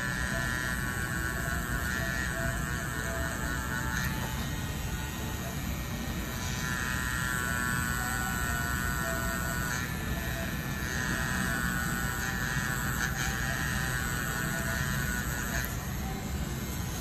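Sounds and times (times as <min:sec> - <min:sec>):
tattoo machine motor buzz: 0:00.0 - 0:17.0.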